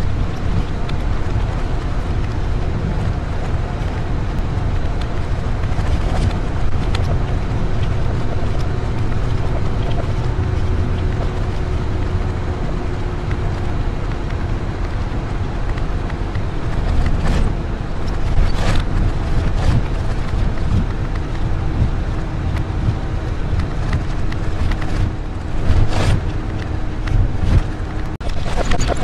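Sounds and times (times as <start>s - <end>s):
road and engine noise inside vehicle: 0.0s - 29.0s.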